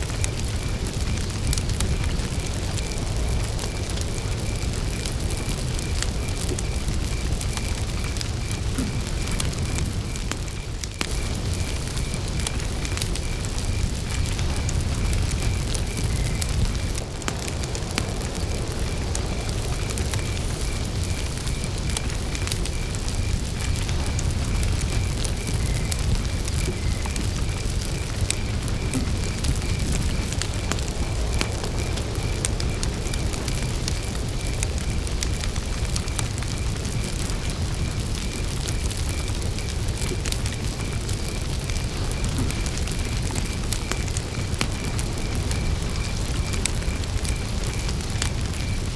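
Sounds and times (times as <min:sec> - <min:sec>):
campfire crackling: 0:00.0 - 0:48.9
cricket chirping: 0:00.0 - 0:48.9.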